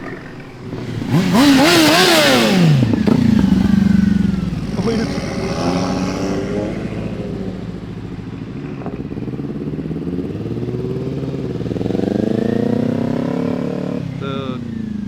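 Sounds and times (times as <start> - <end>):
vehicle engines accelerating: 0.0 - 15.0.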